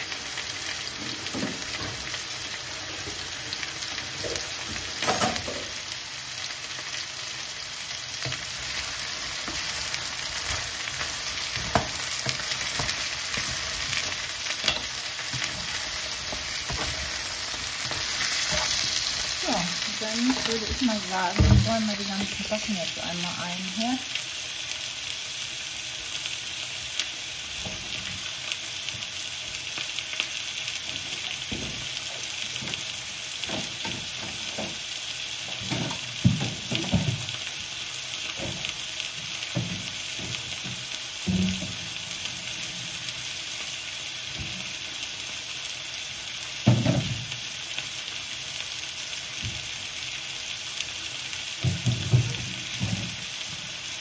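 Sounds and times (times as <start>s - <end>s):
potatoes sizzling in a pan: 0.0s - 54.0s.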